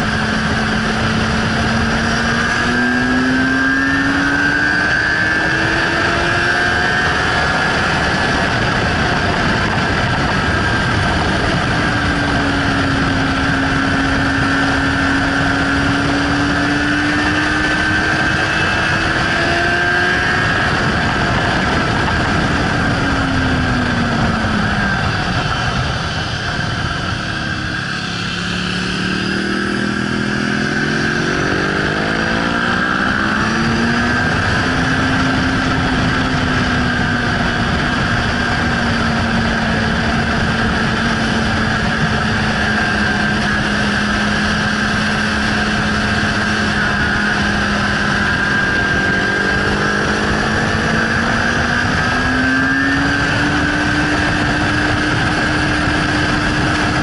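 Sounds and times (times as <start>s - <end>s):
motorcycle engine accelerating: 0.0s - 57.0s
wind rushing: 0.0s - 57.0s.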